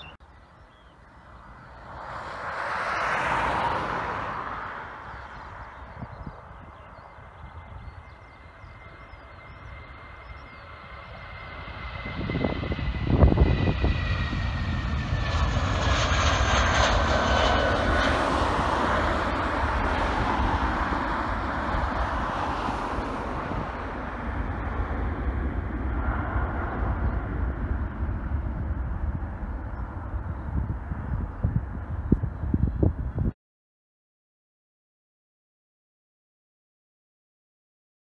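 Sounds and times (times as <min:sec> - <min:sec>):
jet engines taking off: 0:00.9 - 0:33.3.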